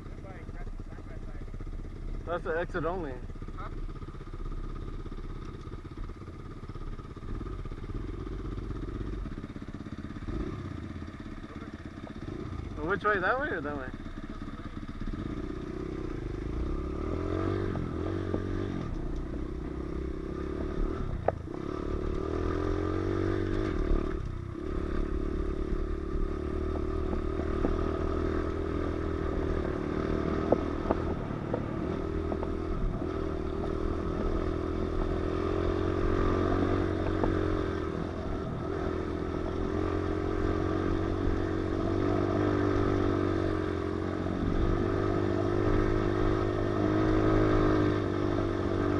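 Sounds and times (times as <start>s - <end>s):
pit bike engine running: 0.0s - 48.9s.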